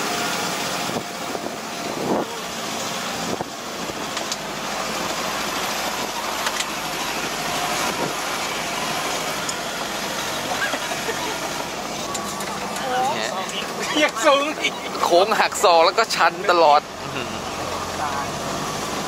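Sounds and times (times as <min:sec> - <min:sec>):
truck engine driving uphill: 0:00.0 - 0:19.0.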